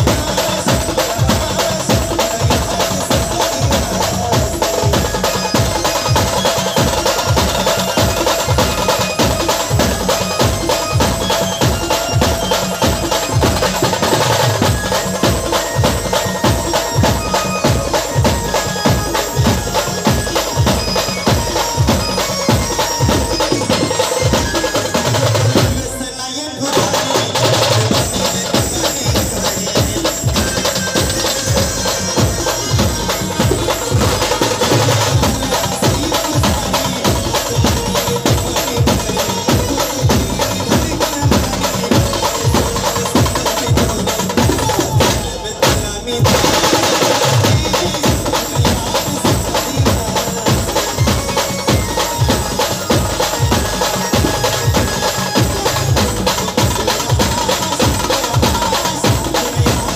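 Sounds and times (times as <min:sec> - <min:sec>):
fast drum beat: 0:00.0 - 0:59.9
loud amplified band music: 0:00.0 - 0:59.9.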